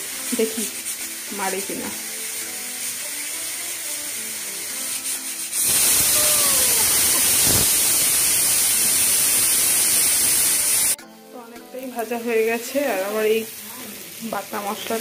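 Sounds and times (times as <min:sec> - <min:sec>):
pressure cooker steam hissing: 0:00.0 - 0:11.0, 0:12.8 - 0:15.0.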